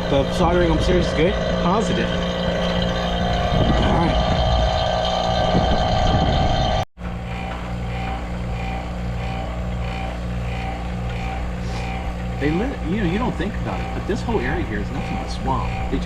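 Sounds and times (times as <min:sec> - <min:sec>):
faint regular pulsing: 0:00.0 - 0:16.0
motor humming: 0:00.0 - 0:16.0.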